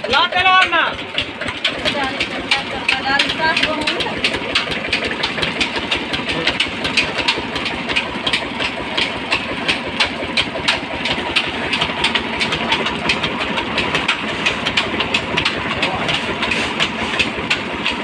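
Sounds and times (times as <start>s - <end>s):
flour mill clattering: 0.0s - 18.0s.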